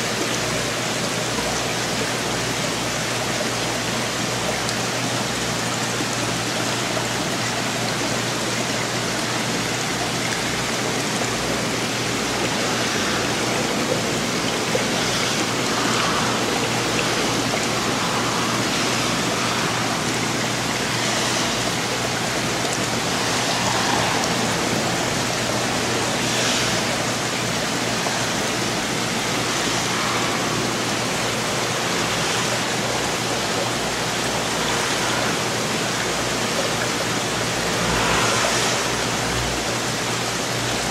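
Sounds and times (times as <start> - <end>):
aquarium water splashing: 0.0 - 40.9.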